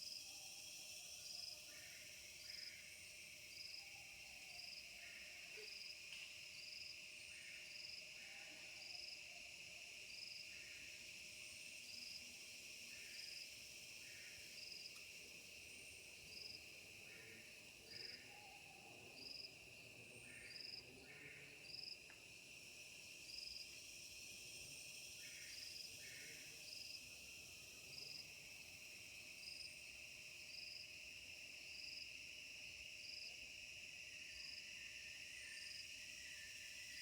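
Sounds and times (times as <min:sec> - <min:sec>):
high insect chirps: 0:00.0 - 0:08.2, 0:08.8 - 0:37.0
insects chirring: 0:00.0 - 0:37.0
low insect chirps: 0:00.0 - 0:37.0.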